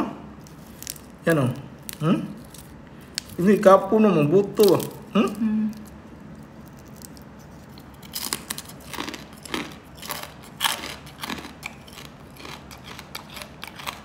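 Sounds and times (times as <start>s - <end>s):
crunchy food being chewed: 0.4s - 3.7s, 4.6s - 14.0s.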